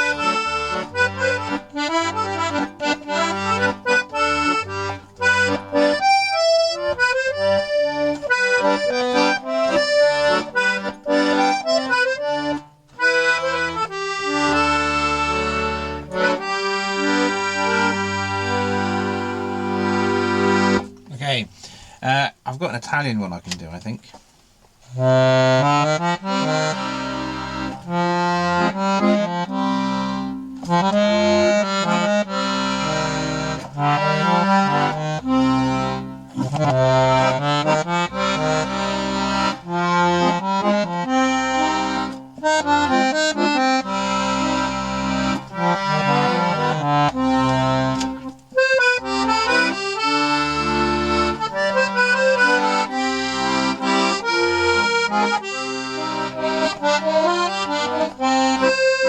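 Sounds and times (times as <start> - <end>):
accordion folk tune: 0.0 - 22.0, 24.7 - 59.0.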